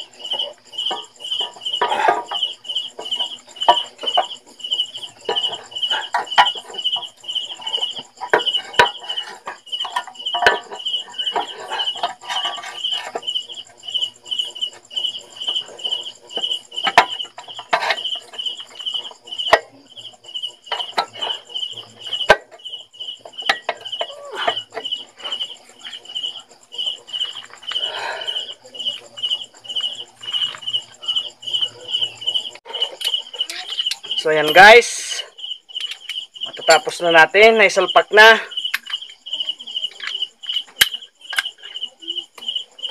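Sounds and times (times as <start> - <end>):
insect chirping: 0.0 - 42.9.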